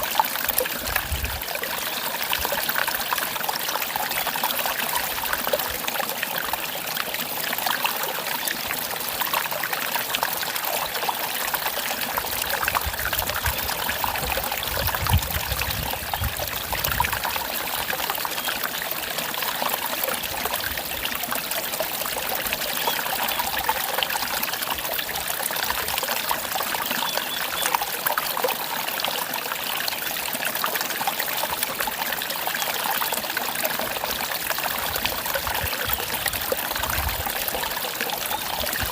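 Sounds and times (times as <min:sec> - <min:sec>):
stream splashing over rocks: 0:00.0 - 0:38.9.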